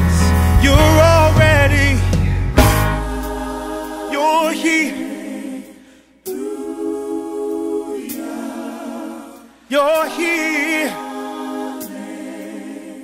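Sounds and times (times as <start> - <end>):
gospel singing voices: 0.0 - 13.0.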